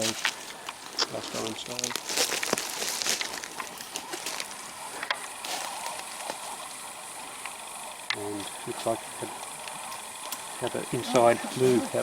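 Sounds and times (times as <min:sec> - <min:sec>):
high outdoor hiss: 0:00.0 - 0:12.0.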